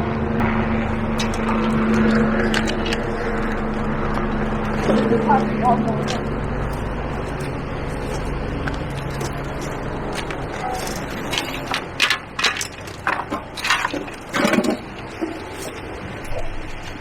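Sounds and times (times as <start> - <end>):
steady low rumble: 0.0 - 17.0
sharp knocks and clatters: 0.4 - 5.2, 6.0 - 15.9.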